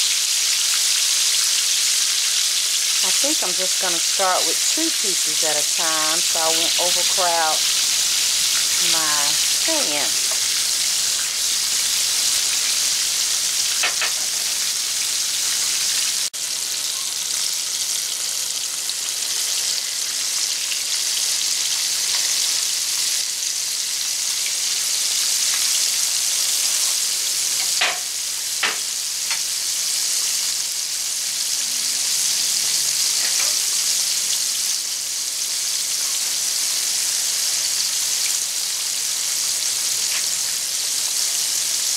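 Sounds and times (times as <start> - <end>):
fish deep-frying in hot oil: 0.0 - 41.9.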